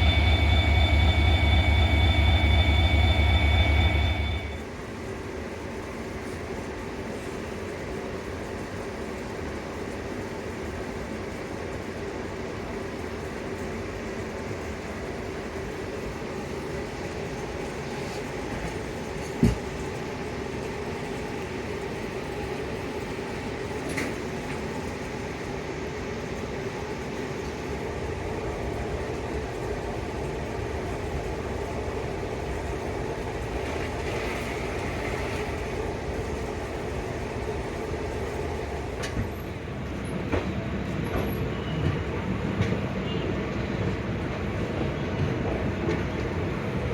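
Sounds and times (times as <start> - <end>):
train rumble and hum: 0.0 - 46.9.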